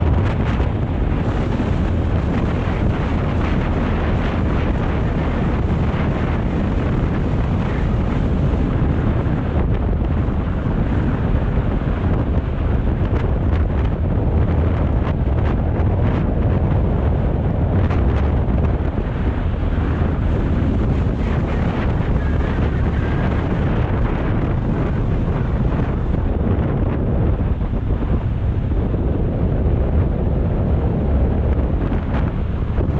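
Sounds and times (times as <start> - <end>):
motorcycle engine drone: 0.0 - 32.9
wind buffeting microphone: 0.0 - 32.9.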